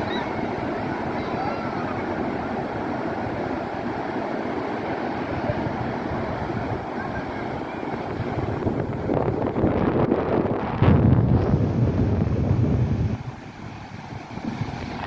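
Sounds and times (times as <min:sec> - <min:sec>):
ocean waves breaking: 0:00.0 - 0:15.0
wind on microphone: 0:00.0 - 0:15.0.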